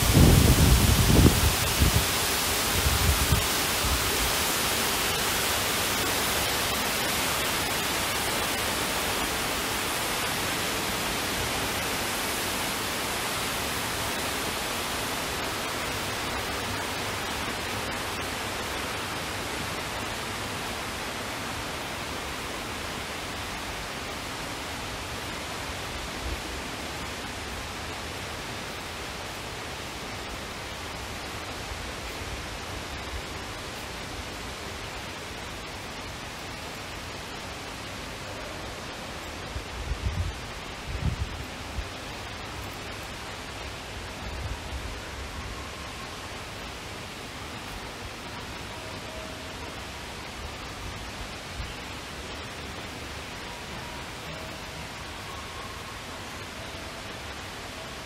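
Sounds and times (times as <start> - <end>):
indoor waterfall rushing: 0.0 - 58.0.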